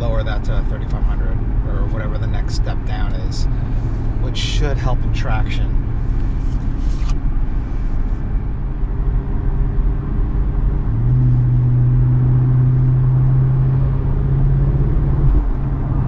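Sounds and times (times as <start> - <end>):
in-cabin engine and road noise: 0.0 - 16.0
low exhaust drone: 0.0 - 16.0.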